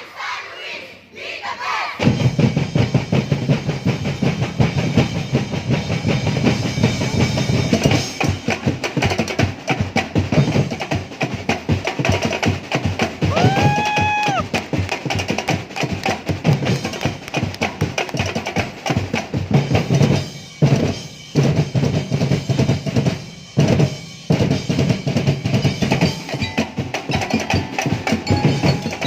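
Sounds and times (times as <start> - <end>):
percussive street-dance music: 2.0 - 29.0.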